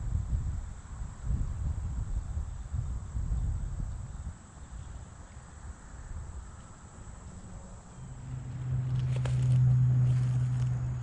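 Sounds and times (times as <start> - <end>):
high-pitched insect chorus: 0.0 - 11.0
low uneven rumble: 1.5 - 11.0.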